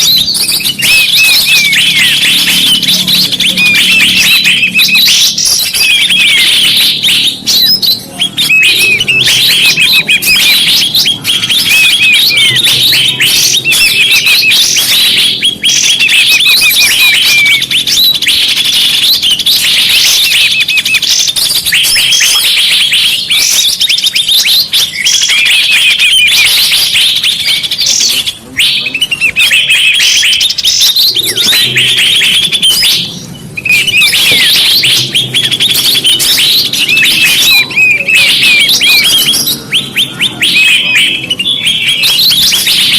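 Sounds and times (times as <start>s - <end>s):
small birds chirping and twittering: 0.0s - 42.9s.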